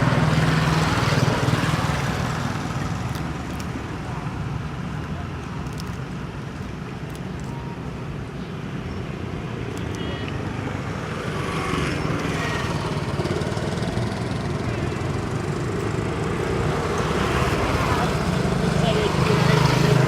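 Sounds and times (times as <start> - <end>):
road noise: 0.0 - 20.0
vehicle engine hum: 0.0 - 20.0.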